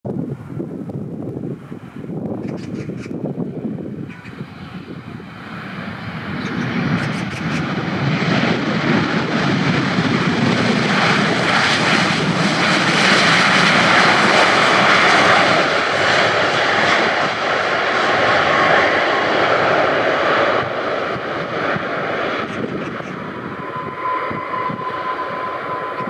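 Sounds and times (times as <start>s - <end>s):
jet engine roar: 0.1s - 26.0s.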